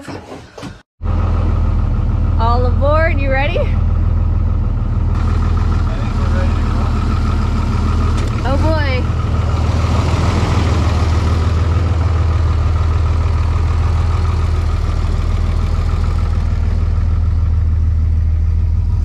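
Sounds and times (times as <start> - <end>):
van engine idling: 1.0 - 19.0.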